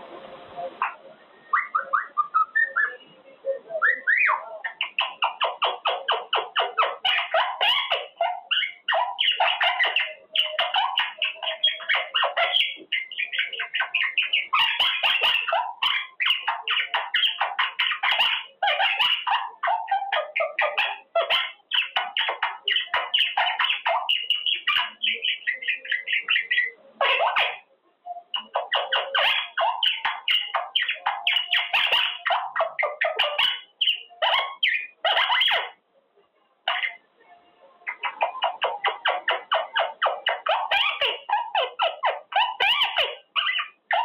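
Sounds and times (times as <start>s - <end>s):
parrot chattering: 0.8s - 3.0s, 3.7s - 35.8s, 36.6s - 37.0s, 37.8s - 44.0s.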